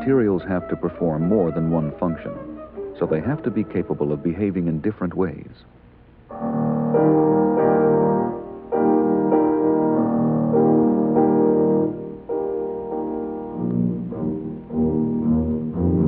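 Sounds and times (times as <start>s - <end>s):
keyboard playing slow chords: 0.0s - 4.9s, 6.3s - 16.0s.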